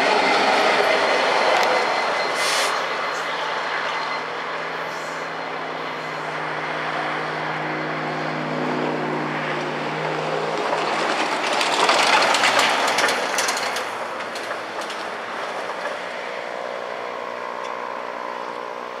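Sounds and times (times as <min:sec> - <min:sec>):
freight train rumble: 0:00.0 - 0:19.0.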